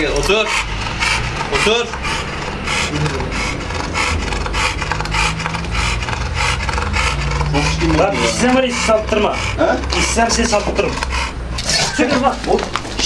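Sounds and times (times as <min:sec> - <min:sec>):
dog panting rapidly: 0:00.0 - 0:13.0.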